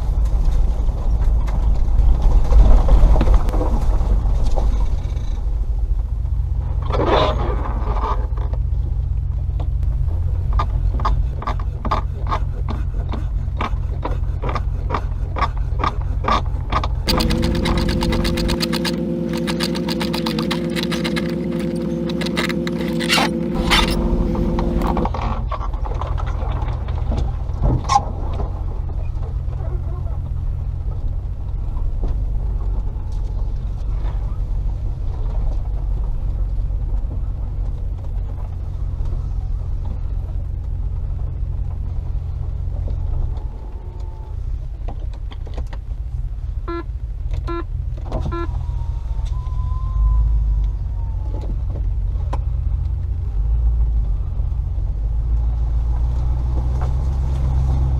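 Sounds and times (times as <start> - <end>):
car engine rumble: 0.0 - 57.9.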